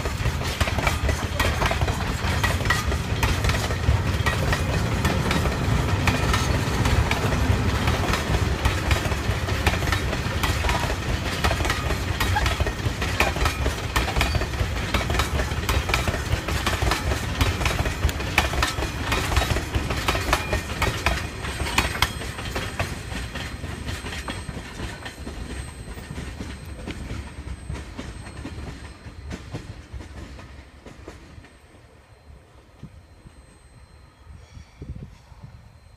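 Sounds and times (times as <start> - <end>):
train wheels clacking on rails: 0.0 - 31.8.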